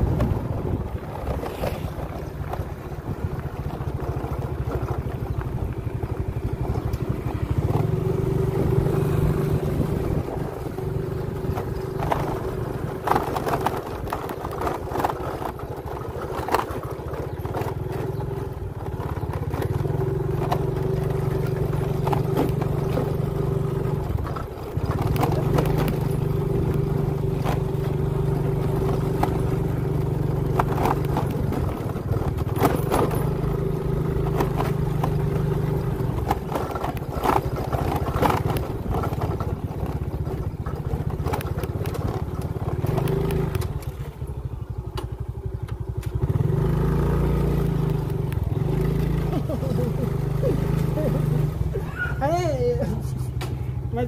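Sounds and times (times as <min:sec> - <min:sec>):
bike knocking and rattling: 0:00.0 - 0:54.0
small motorcycle engine drone: 0:00.0 - 0:54.0.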